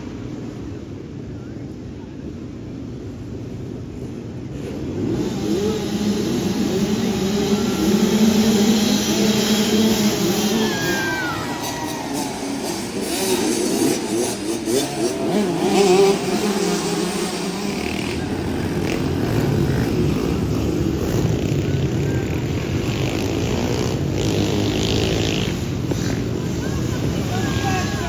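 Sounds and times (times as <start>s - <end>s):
motocross bike engines revving: 3.1s - 28.0s.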